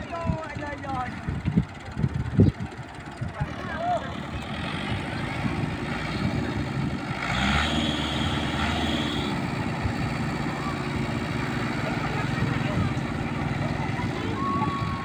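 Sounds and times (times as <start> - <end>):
vehicle engine chugging: 0.0 - 15.0.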